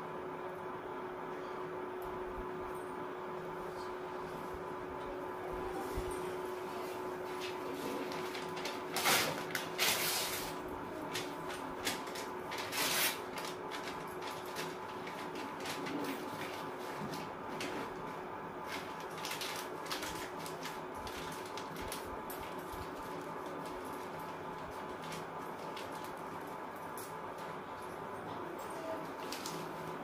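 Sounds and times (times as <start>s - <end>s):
steady faint hum: 0.0s - 30.0s.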